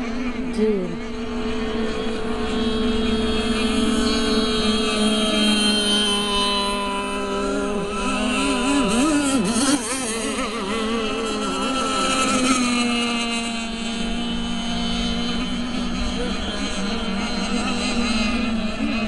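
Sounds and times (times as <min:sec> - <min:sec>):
model boat engines buzzing: 0:00.0 - 0:19.0.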